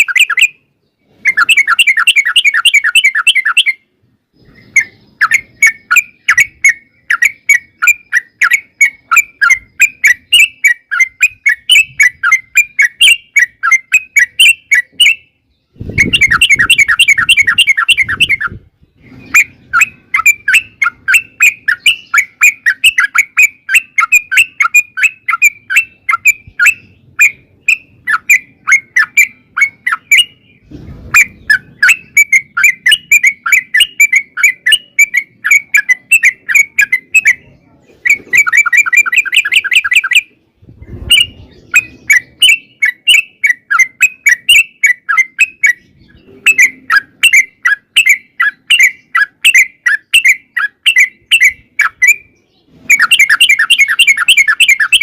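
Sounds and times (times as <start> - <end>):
bird sharp chirps: 0.0 - 55.0.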